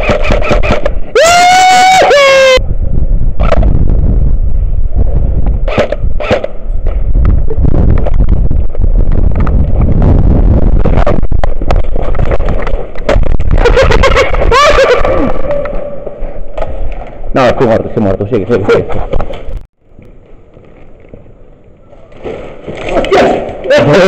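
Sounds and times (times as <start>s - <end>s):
wind and handling rumble: 2.6s - 23.7s.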